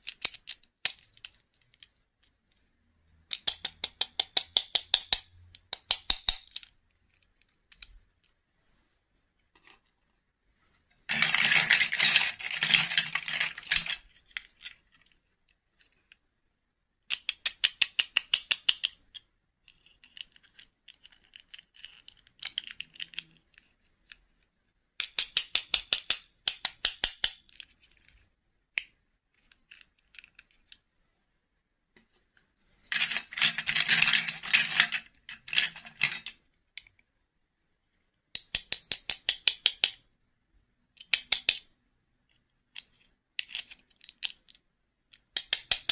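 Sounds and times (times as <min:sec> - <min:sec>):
plastic figures clattering and clicking: 0:00.0 - 0:08.4, 0:11.0 - 0:16.3, 0:17.0 - 0:30.9, 0:32.0 - 0:37.1, 0:38.3 - 0:40.1, 0:40.8 - 0:45.9.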